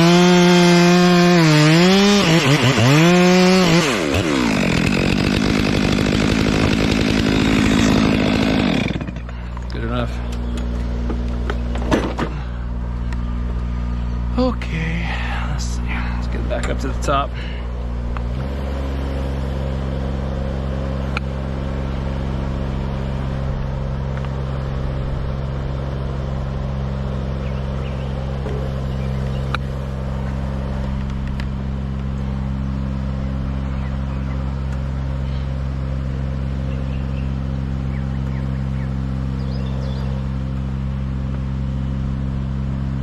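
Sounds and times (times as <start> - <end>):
engine running steadily: 0.0 - 43.0.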